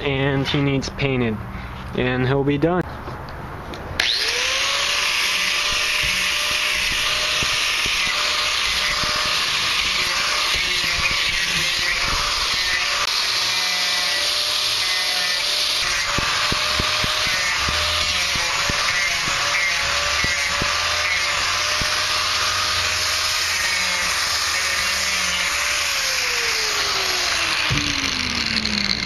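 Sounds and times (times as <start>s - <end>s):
angle grinder sanding wood: 4.0s - 29.0s.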